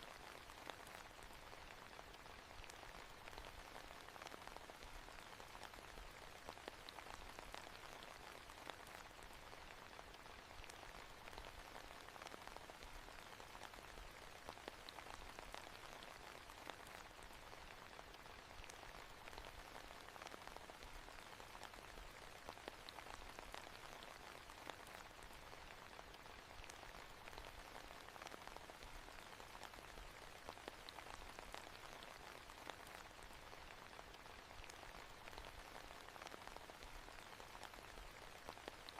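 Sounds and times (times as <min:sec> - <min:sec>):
faint rain drops ticking: 0:00.0 - 0:38.9.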